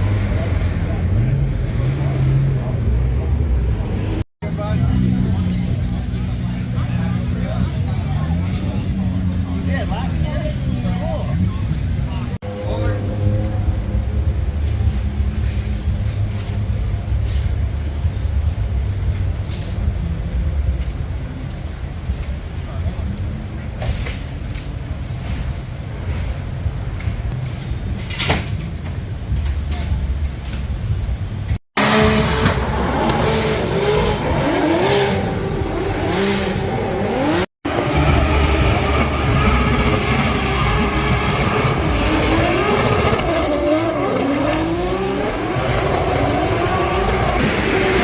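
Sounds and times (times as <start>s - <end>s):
race car engines idling: 0.0s - 48.0s.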